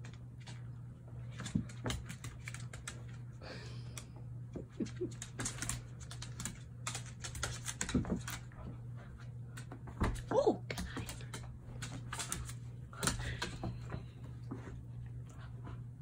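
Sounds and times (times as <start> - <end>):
paws clicking on hardwood floor: 0.0 - 16.0.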